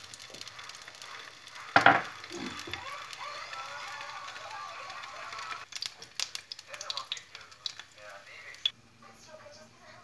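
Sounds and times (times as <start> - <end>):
loud oil crackle: 0.0 - 8.7
salami sizzling in a pan: 0.0 - 10.0.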